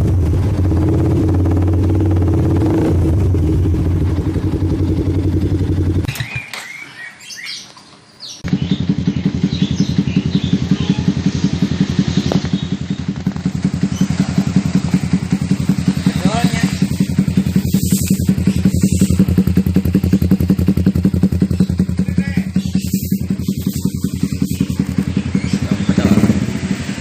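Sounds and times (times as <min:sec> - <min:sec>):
motorcycle engine idling: 0:00.0 - 0:06.1, 0:08.4 - 0:27.0
birds chirping: 0:04.0 - 0:27.0.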